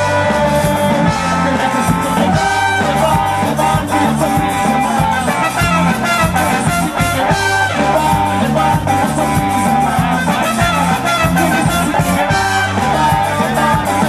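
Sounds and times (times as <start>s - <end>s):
live ska band playing: 0.0s - 14.0s
person singing: 0.0s - 14.0s.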